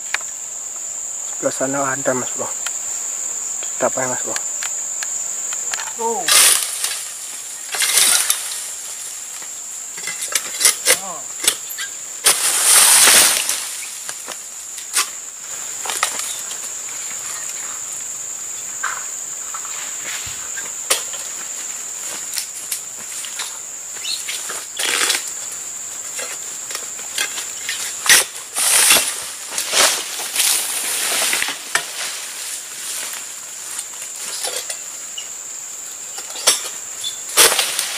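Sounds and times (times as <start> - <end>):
high-pitched insect drone: 0.0 - 37.9
rustling and scraping of palm fronds: 5.4 - 18.1, 18.8 - 35.4, 36.0 - 37.9.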